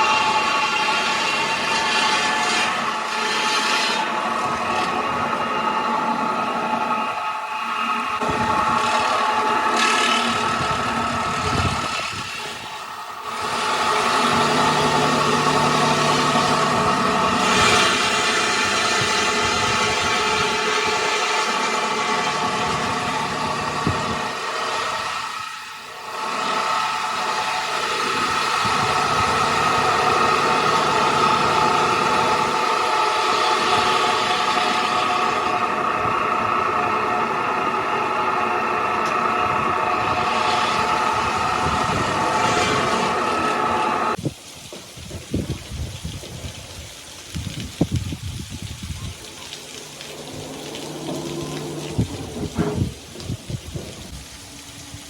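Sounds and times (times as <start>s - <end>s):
heavy machinery whining and grinding: 0.0s - 44.2s, 49.3s - 55.0s.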